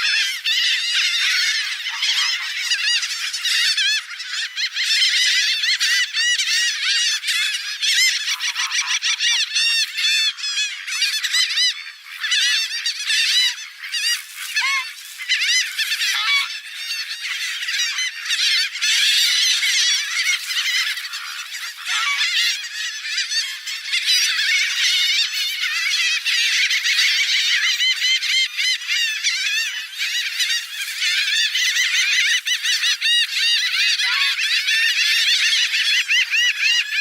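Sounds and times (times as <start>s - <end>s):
flock of waterbirds calling: 0.0s - 37.0s.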